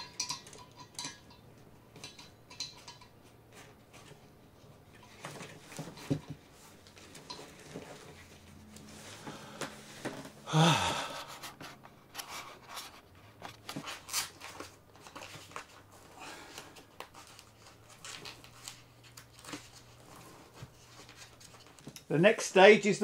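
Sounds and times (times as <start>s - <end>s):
straps and buckles rustling: 0.0s - 22.4s.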